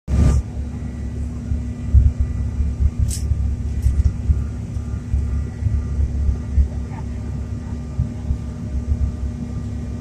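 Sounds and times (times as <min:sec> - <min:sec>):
airliner engine rumble in cabin: 0:00.1 - 0:10.0
steady hum: 0:00.1 - 0:10.0.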